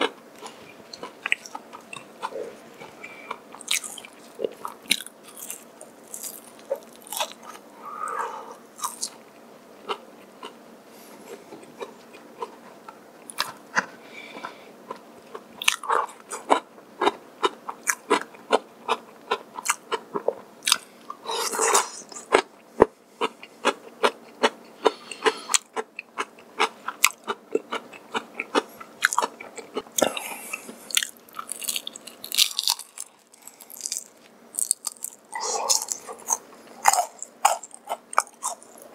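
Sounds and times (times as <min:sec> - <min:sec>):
chewing crispy fried chicken: 0:00.0 - 0:07.6, 0:08.8 - 0:09.2, 0:11.3 - 0:22.5, 0:23.2 - 0:38.9.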